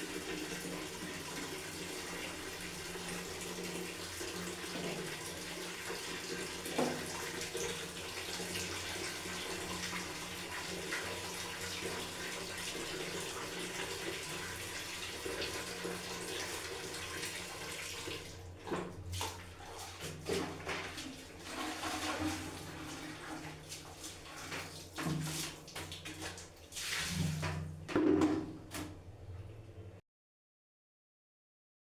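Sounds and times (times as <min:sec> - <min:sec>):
water splashing and gushing: 0:00.0 - 0:27.6
water running: 0:00.0 - 0:30.0.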